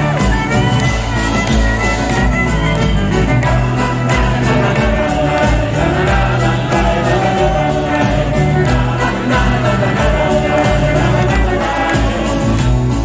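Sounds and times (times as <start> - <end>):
live rock band playing: 0.0 - 13.0
voices singing together: 0.0 - 13.0.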